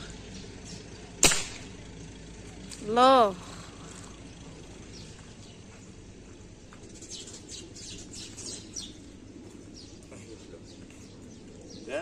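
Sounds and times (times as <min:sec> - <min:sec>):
faint steady background noise: 0:00.0 - 0:12.0
small birds chirping: 0:00.0 - 0:12.0.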